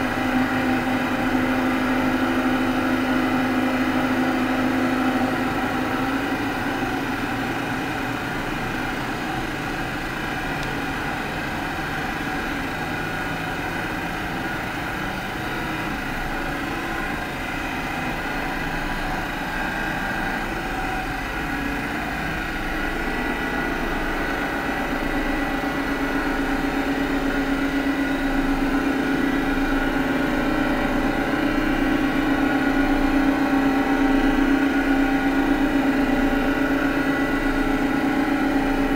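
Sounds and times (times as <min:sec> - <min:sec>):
ambient synthesizer drone: 0:00.0 - 0:38.9.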